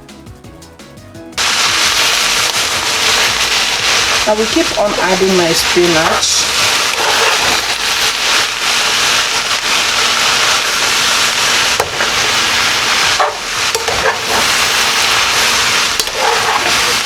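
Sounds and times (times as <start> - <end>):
pot sizzling: 1.4 - 17.0.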